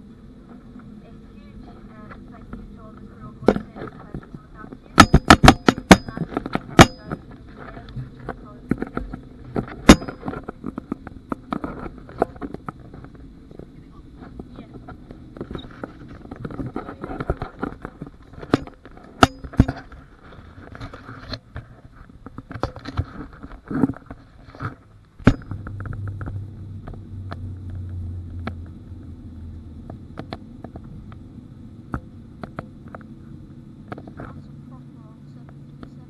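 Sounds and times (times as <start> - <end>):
airliner cabin rumble: 0.0 - 36.0
deeper hum: 0.0 - 36.0.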